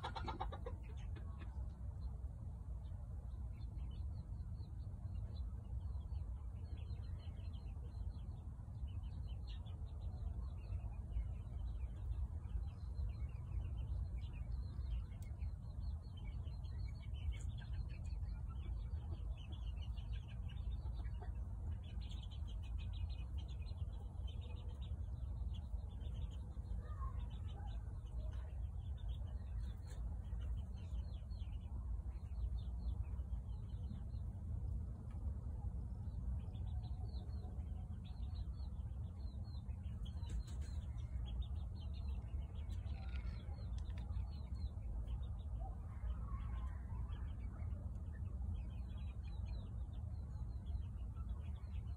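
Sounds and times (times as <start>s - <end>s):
small birds chirping: 0.0s - 51.9s
steady low rumble: 0.0s - 51.9s.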